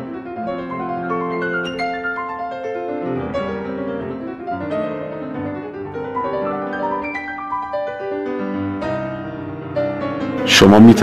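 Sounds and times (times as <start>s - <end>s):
classical piano music: 0.0s - 11.0s.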